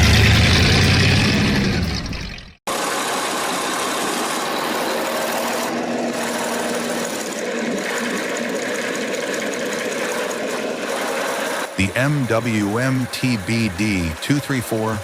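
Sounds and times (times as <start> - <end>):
diesel engine clattering: 0.0 - 2.6, 4.4 - 15.0.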